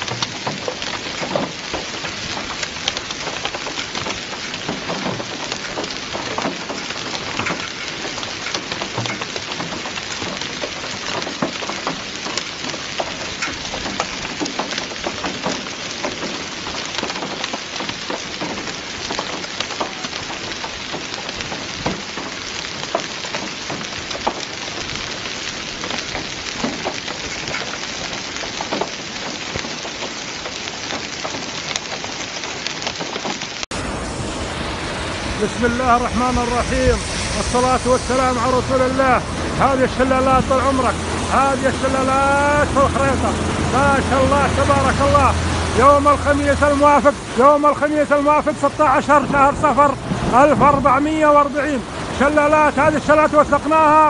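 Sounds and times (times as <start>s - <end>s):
hailstones ticking: 0.0s - 54.0s
heavy rain on stone paving: 0.0s - 54.0s.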